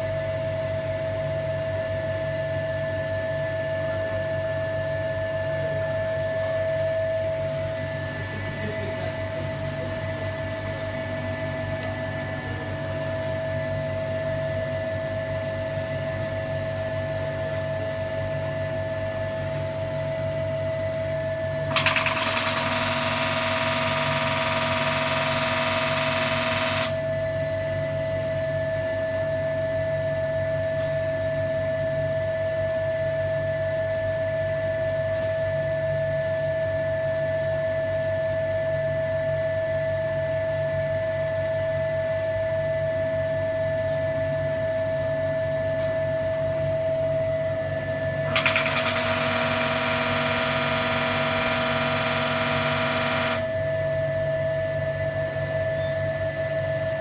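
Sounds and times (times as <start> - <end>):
vacuum pump humming and whining: 0.0 - 57.0.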